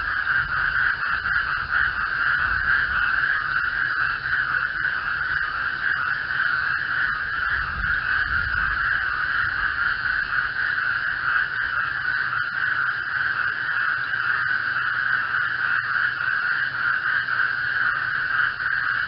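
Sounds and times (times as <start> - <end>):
chorus of frogs calling: 0.0 - 19.0.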